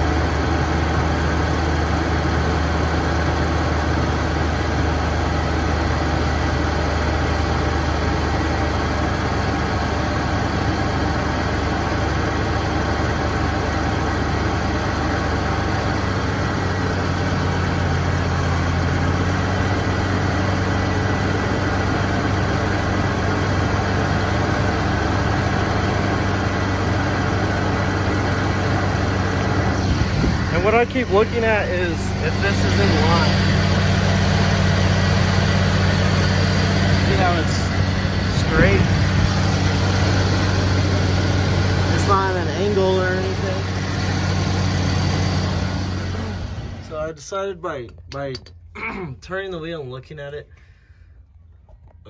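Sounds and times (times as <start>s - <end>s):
petrol engine idling: 0.0s - 47.4s.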